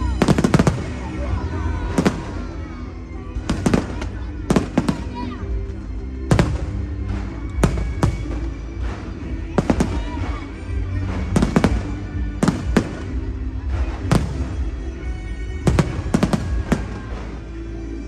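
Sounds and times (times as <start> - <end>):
fireworks bangs: 0.0 - 2.7, 3.4 - 17.6
music playing: 0.0 - 18.0.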